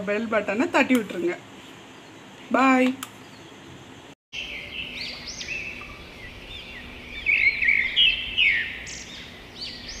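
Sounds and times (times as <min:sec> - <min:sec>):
birds chirping: 0:00.1 - 0:10.0.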